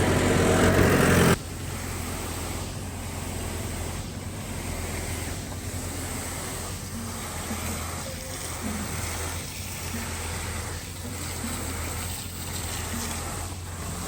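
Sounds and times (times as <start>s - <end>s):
concrete pump engine humming: 0.0s - 14.0s
pump stroke pulse: 0.0s - 14.0s.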